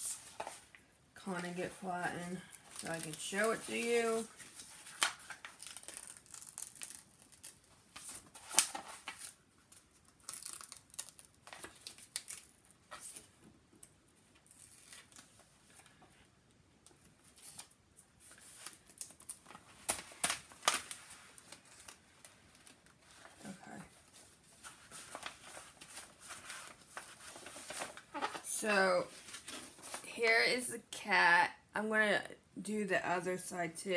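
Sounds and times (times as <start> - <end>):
paper wrapping rustling and crinkling: 0.0 - 13.4, 14.2 - 16.3, 16.9 - 30.2.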